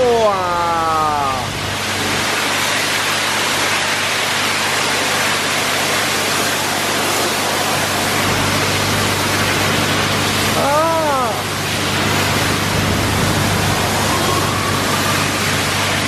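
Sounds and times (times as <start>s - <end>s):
steady low hum: 0.0s - 16.0s
water jets spraying car: 0.0s - 16.0s.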